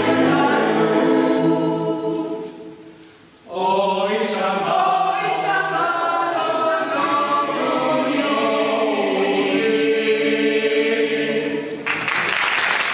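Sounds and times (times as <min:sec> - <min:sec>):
mixed choir singing: 0:00.0 - 0:11.9.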